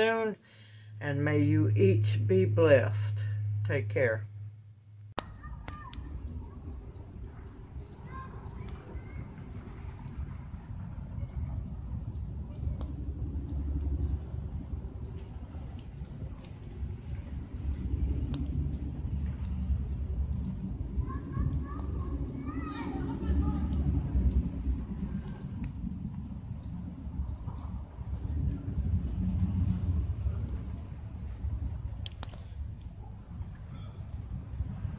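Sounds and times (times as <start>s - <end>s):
fire low rumble: 0.0s - 34.9s
fire crackling: 4.8s - 34.9s.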